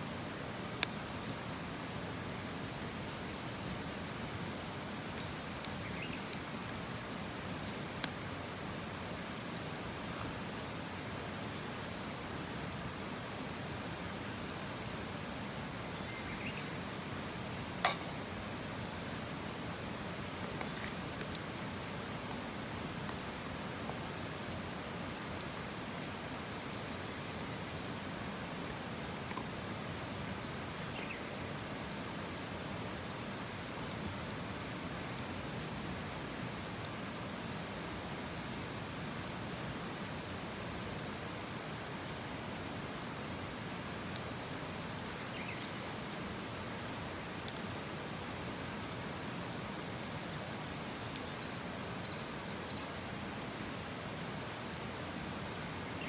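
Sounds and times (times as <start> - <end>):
campfire burning with crackles: 0.0 - 56.0.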